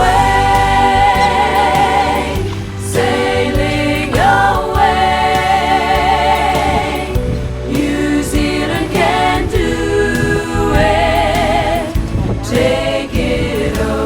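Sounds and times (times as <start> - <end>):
song with vibrato vocals: 0.0 - 14.0
steady bass line: 0.0 - 14.0.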